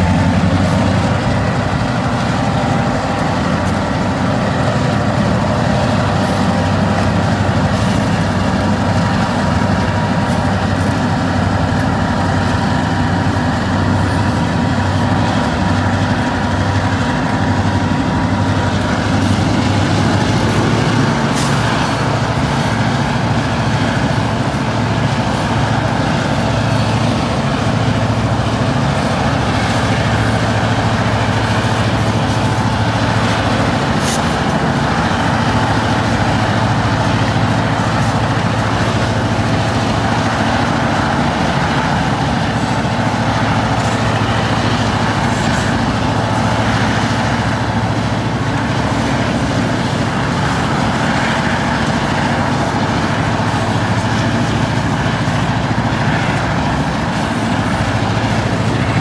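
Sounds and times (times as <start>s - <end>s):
diesel locomotives running: 0.0s - 59.0s
road noise: 0.0s - 59.0s.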